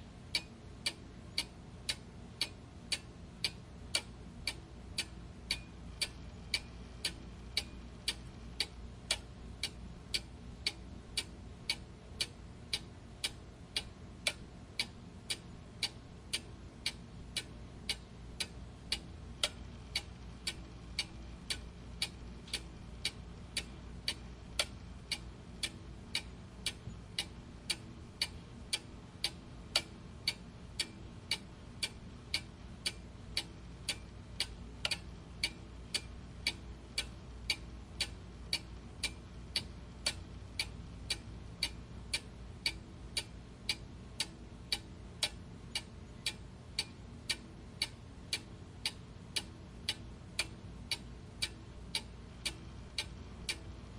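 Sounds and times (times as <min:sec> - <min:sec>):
low background hum: 0:00.0 - 0:53.9
clock ticking: 0:00.3 - 0:53.9.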